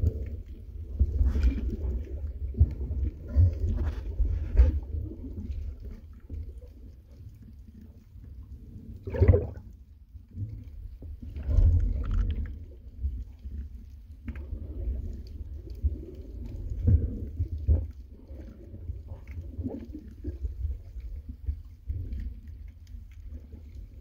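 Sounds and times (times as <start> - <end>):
underwater rumble of water: 0.0 - 24.0
water gurgling: 0.0 - 24.0.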